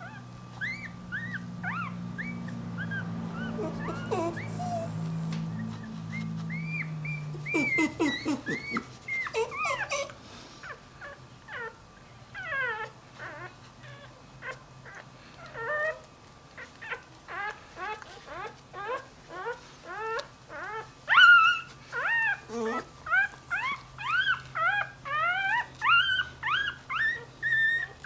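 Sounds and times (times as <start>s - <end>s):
low steady hum: 0.0s - 27.6s
puppy whimpering and squealing: 0.0s - 28.0s.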